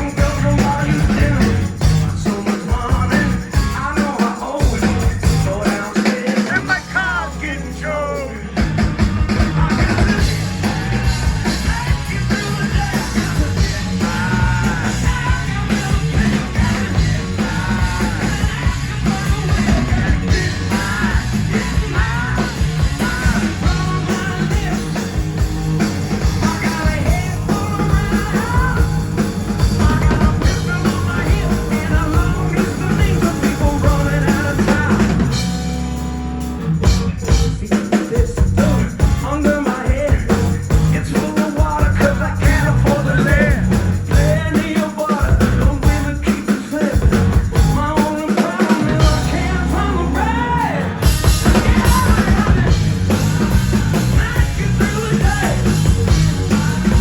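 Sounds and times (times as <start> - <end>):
person singing: 0.0 - 8.6, 9.2 - 25.2, 26.2 - 35.4, 37.6 - 57.0
hard rock band playing: 0.0 - 57.0.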